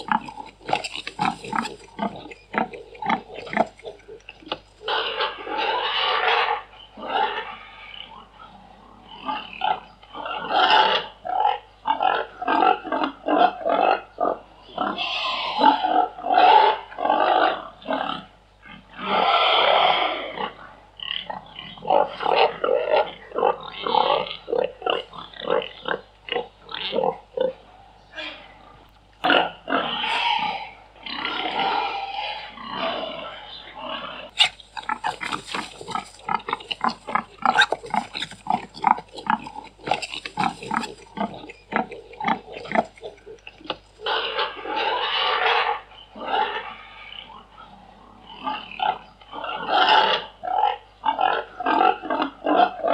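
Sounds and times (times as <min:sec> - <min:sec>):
pig squeals: 0:00.0 - 0:52.9
pigs grunting: 0:00.0 - 0:52.9.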